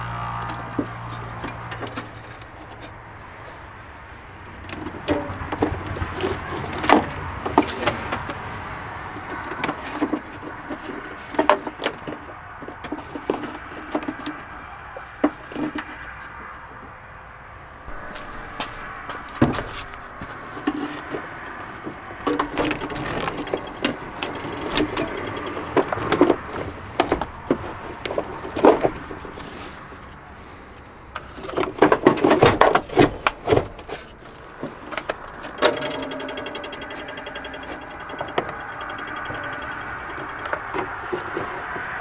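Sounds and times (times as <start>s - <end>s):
hand tools clicking and clattering: 0.3s - 16.6s, 17.7s - 42.0s.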